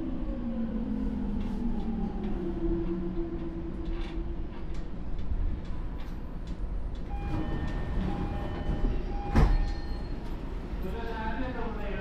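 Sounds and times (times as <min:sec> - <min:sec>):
train equipment low rumble: 0:00.0 - 0:12.0.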